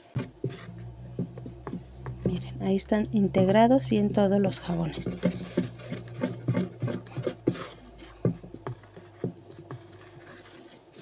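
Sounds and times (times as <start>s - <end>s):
wooden spoon scraping plastic tub: 0.0s - 11.0s.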